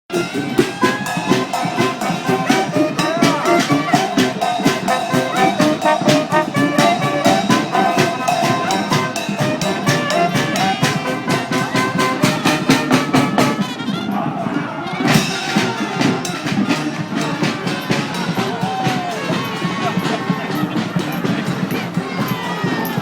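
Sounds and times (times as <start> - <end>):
quick steady drumbeat: 0.1 - 13.8, 15.0 - 23.0
brass band horns playing: 0.1 - 23.0.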